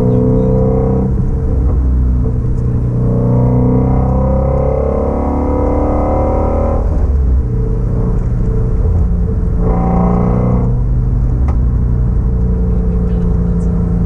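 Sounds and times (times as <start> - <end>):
car engine exhaust note: 0.0 - 14.0.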